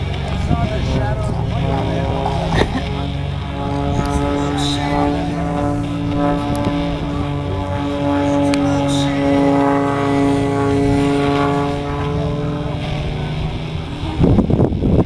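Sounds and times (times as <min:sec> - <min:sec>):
propeller airplane engine: 0:00.0 - 0:15.0.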